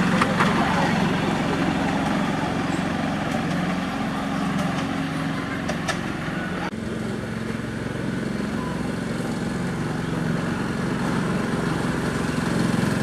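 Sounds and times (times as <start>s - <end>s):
miniature train locomotive hum: 0.0s - 13.0s.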